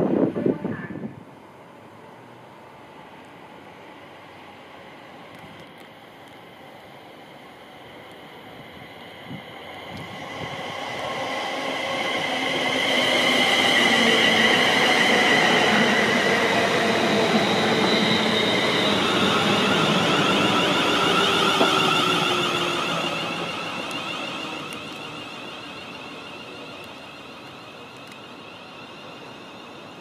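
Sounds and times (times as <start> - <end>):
electric train whine: 0.0 - 30.0
wheel-on-rail noise: 5.3 - 30.0.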